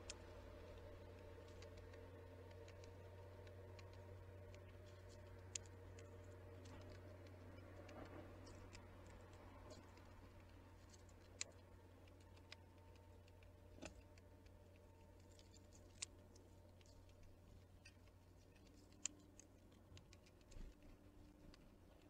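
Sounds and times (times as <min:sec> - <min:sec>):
birds pecking at feeder: 0:00.0 - 0:22.0
faint low hum: 0:00.0 - 0:22.0.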